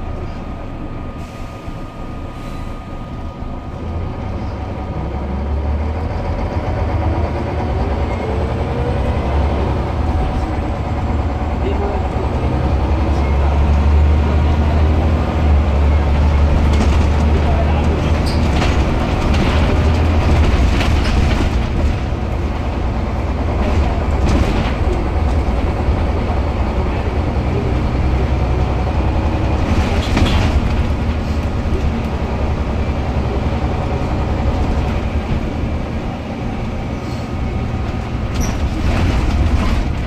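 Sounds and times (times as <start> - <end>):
bus engine drone: 0.0 - 40.0.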